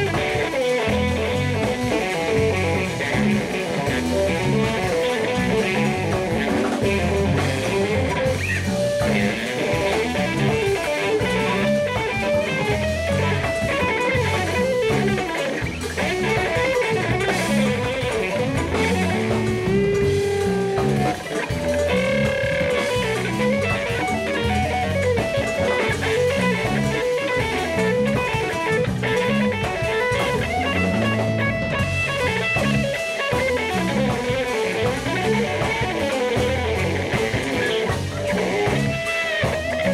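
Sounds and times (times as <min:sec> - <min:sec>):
electric guitar: 0:00.0 - 0:39.9
jazz-funk band playing: 0:00.0 - 0:39.9.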